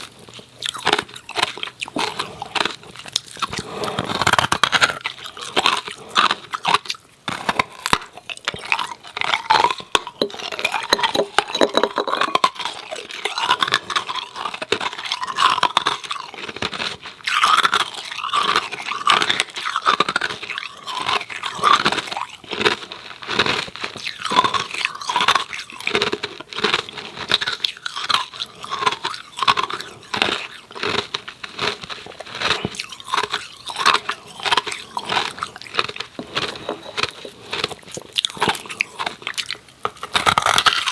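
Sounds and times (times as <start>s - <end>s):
ice cubes being chewed: 0.0s - 40.9s.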